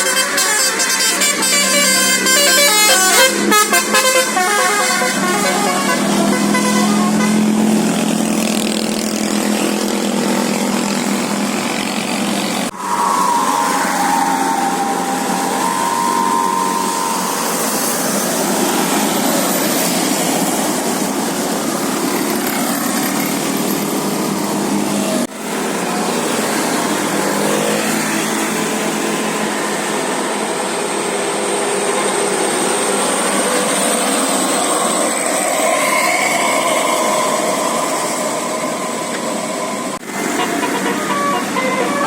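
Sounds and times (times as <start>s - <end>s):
bus engine: 0.0s - 42.0s
road noise: 0.0s - 42.0s.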